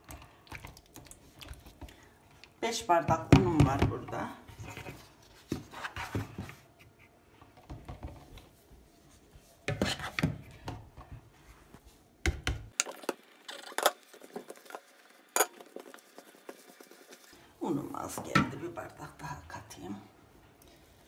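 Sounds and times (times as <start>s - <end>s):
hands working dough: 0.0s - 18.9s.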